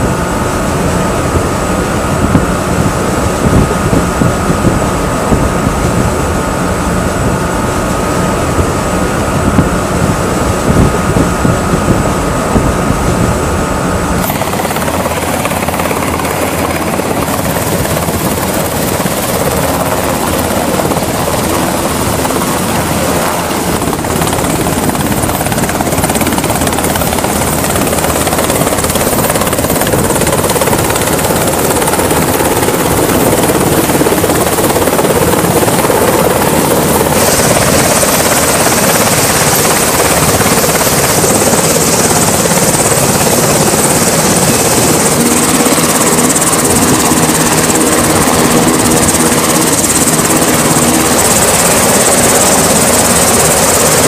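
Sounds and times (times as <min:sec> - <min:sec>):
helicopter rotor and turbine noise: 0:00.0 - 0:54.0.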